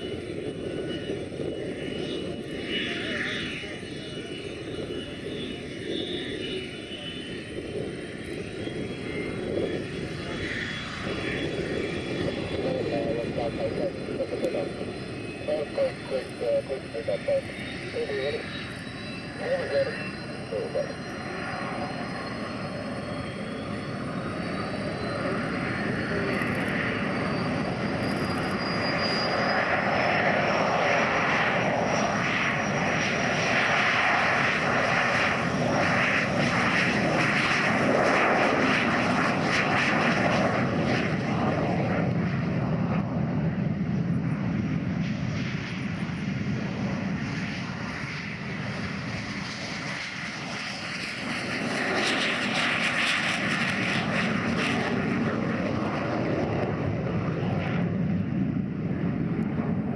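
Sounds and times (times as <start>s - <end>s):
jet engine whining at full power: 0.0s - 59.9s.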